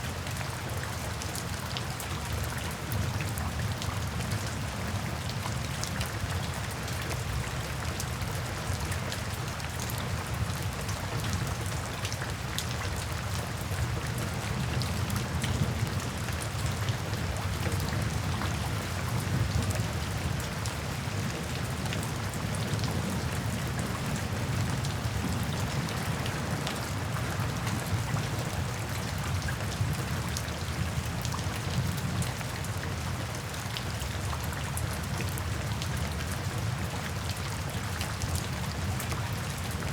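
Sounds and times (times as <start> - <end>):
low rumble of rain: 0.0 - 39.9
raindrops ticking on a surface: 0.0 - 39.9.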